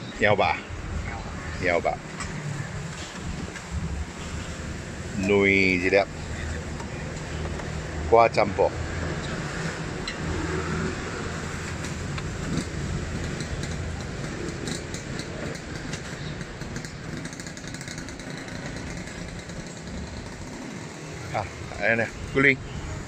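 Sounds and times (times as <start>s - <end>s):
engine humming: 0.7s - 22.2s
food stall noise: 1.0s - 23.0s.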